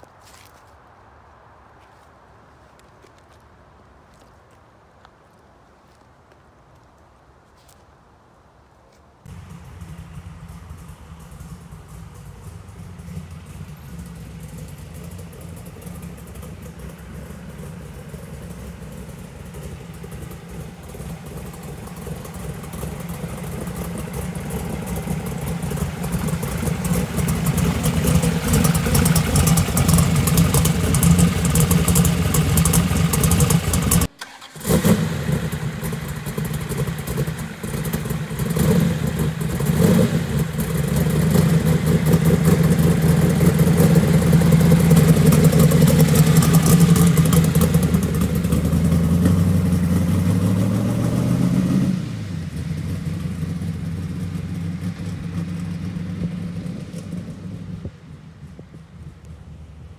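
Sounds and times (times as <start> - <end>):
car engine running: 9.3 - 59.8.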